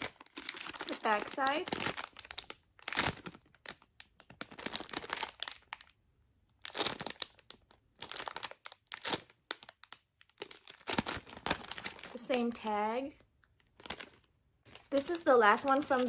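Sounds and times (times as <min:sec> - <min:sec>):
plastic bag crinkling: 0:00.0 - 0:06.0, 0:06.6 - 0:12.7, 0:13.6 - 0:16.0.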